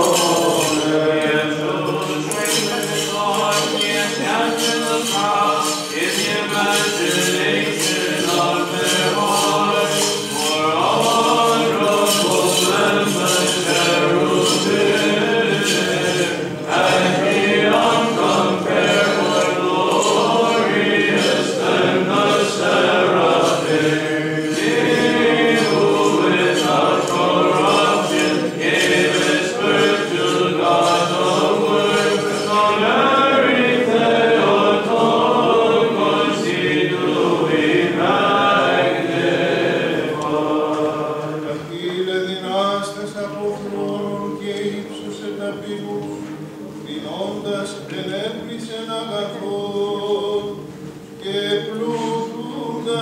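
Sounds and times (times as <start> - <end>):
choir singing chant: 0.0 - 53.0.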